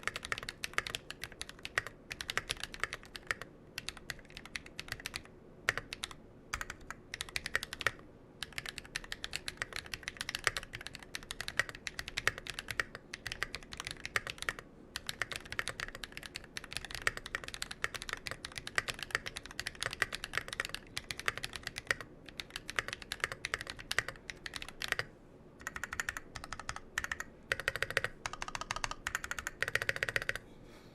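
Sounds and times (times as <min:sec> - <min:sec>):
mechanical keyboard typing: 0:00.0 - 0:30.4.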